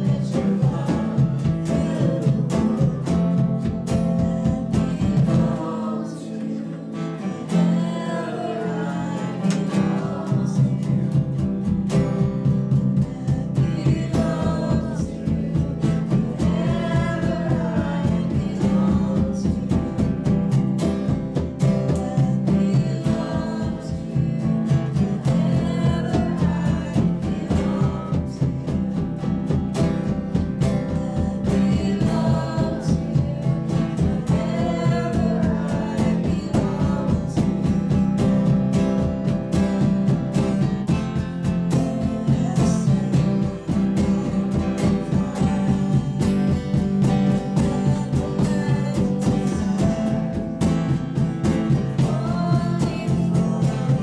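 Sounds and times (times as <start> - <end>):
drum kit beat: 0.0 - 5.9, 7.8 - 54.0
electric guitar: 0.0 - 54.0
strummed acoustic guitar: 0.0 - 54.0
woman singing: 0.0 - 54.0.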